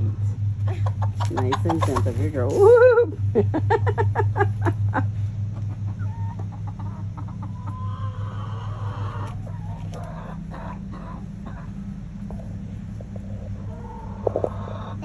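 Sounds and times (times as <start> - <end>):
hens clucking: 0.0 - 15.0
steady low hum: 0.0 - 15.0.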